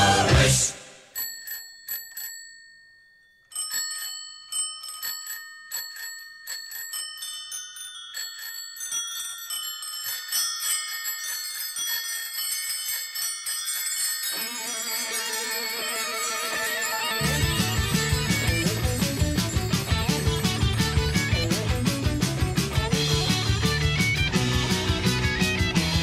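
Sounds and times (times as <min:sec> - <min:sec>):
bicycle bells ringing: 0:01.1 - 0:26.0.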